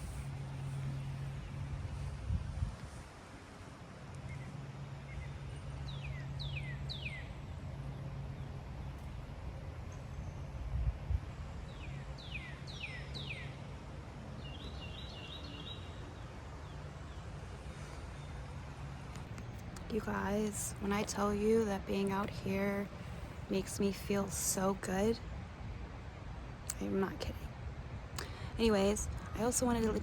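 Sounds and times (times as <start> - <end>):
low steady rumble: 0.0 - 30.0.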